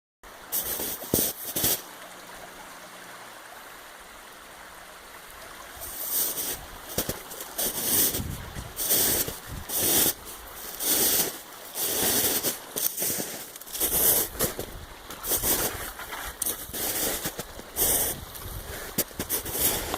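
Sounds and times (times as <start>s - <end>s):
creek water roaring: 0.2s - 19.9s
whooshing water surges: 0.2s - 19.9s.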